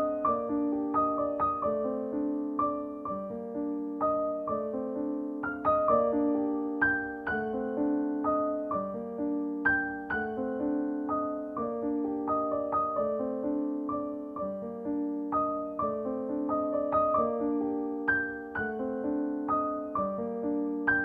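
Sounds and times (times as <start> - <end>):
soft solo piano: 0.0 - 21.0.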